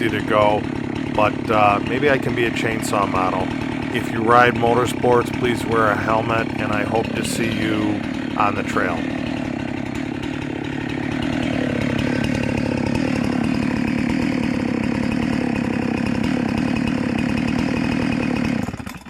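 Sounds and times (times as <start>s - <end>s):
chainsaw running at high revs: 0.0s - 19.0s.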